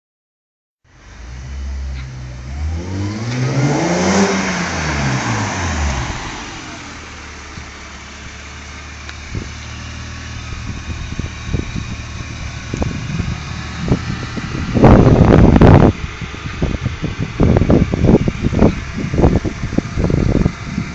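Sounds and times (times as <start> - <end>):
car engine revving from idle: 1.0 - 20.9.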